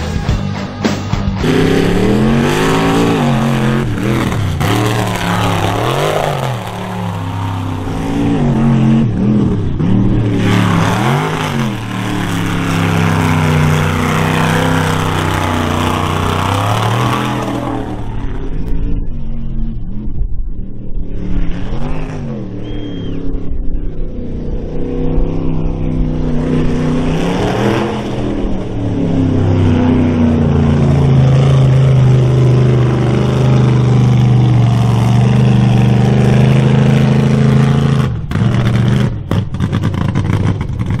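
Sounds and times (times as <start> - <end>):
truck engine revving hard: 0.0 - 19.2, 21.0 - 23.6, 24.2 - 41.0.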